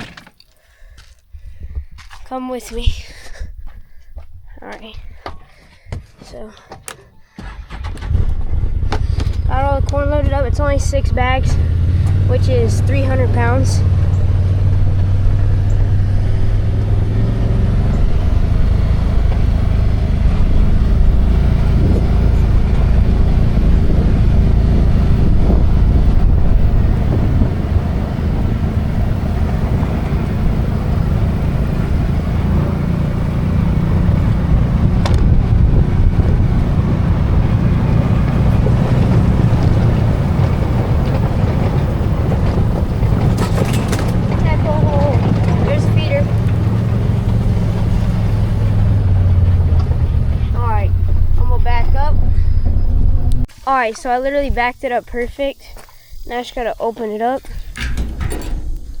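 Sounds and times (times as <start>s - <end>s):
engine and road noise rumble: 0.0s - 59.0s.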